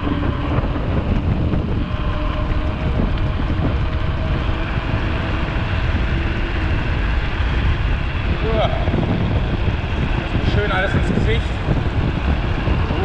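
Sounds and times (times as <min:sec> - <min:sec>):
mountain bike rumbling and rattling: 0:00.0 - 0:13.0
wind buffeting microphone: 0:00.0 - 0:13.0.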